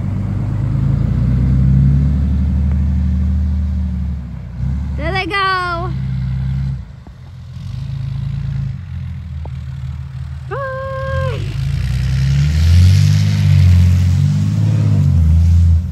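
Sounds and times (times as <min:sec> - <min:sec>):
truck engine revving: 0:00.0 - 0:15.9.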